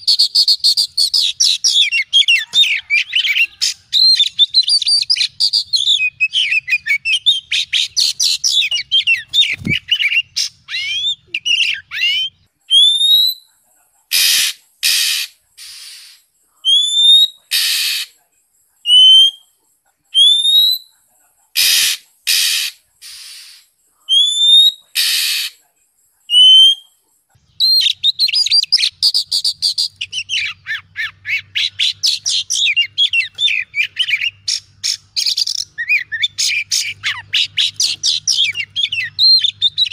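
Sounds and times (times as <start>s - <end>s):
bird singing whistles and chatter: 0.0s - 13.5s, 14.1s - 18.2s, 18.8s - 19.5s, 20.1s - 20.9s, 21.6s - 25.6s, 26.3s - 39.9s.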